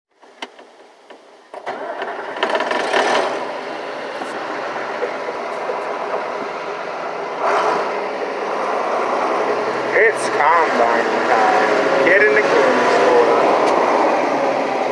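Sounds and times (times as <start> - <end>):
combine diesel engine and machinery: 0.1 - 14.9.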